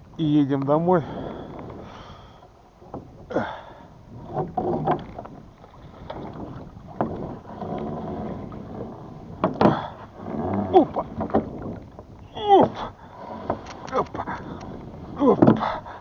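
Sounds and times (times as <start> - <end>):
knocks and creaks of anchor rope: 1.1 - 15.9.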